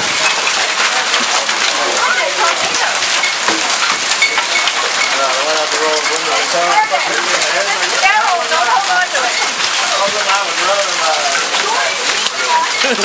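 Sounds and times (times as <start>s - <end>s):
hail clattering: 0.0s - 13.0s
rain hissing: 0.0s - 13.0s.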